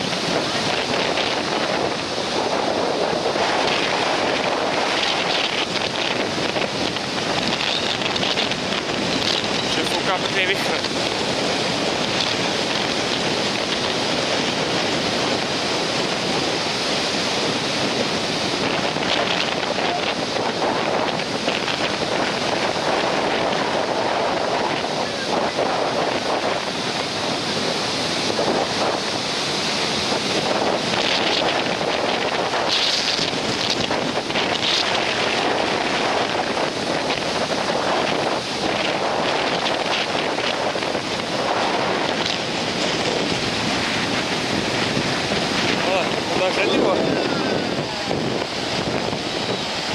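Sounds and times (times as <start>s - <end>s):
surf breaking: 0.0s - 49.9s
wind buffeting microphone: 0.0s - 49.9s.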